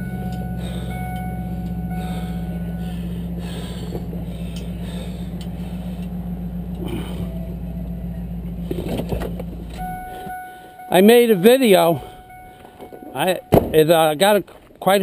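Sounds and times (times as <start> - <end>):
engine idling: 0.0 - 14.7.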